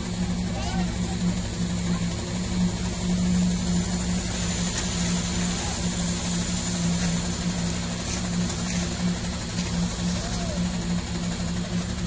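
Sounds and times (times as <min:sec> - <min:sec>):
concrete paver machinery hum: 0:00.0 - 0:12.0.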